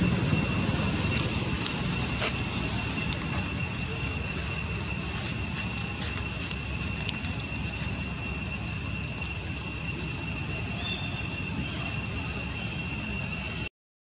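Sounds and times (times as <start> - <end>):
high-pitched insect drone: 0.0 - 13.7
low outdoor rumble: 0.0 - 13.7.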